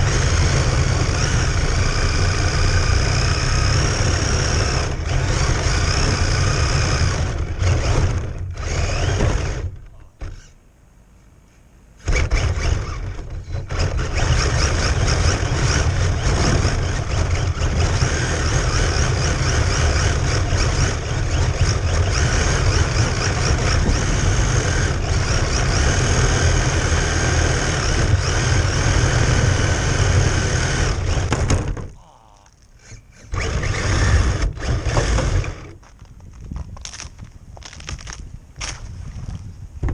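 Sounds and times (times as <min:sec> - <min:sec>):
high motor whine: 0:00.0 - 0:10.6, 0:12.0 - 0:36.2.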